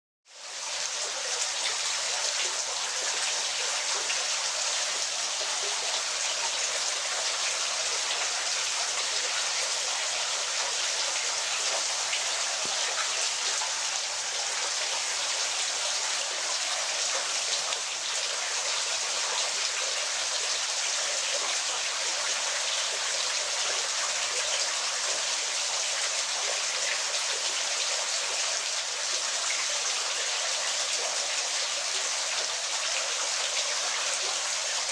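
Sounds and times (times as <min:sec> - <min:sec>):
waterfall rushing and splashing: 0:00.5 - 0:34.9.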